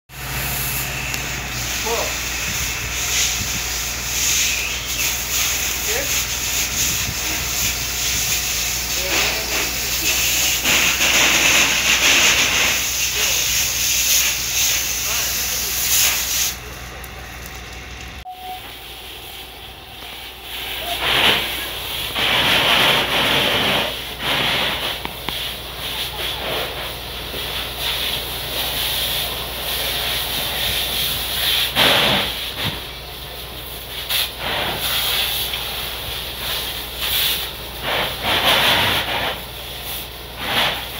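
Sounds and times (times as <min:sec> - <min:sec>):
fire hose spray hissing: 0:00.2 - 0:17.6, 0:18.7 - 0:40.9.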